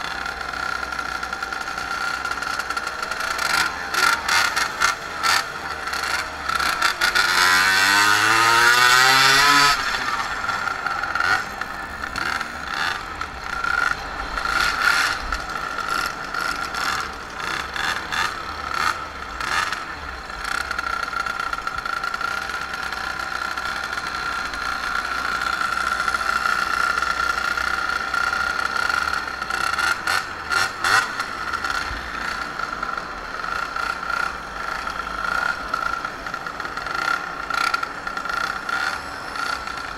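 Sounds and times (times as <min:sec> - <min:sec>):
moped engine revving: 0:00.0 - 0:39.9.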